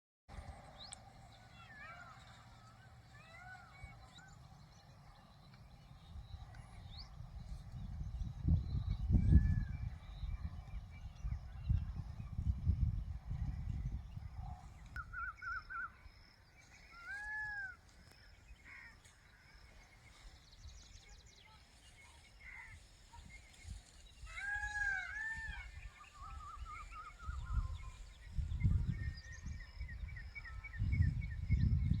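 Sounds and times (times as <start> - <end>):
birds whistling and trilling: 0.5 - 32.0.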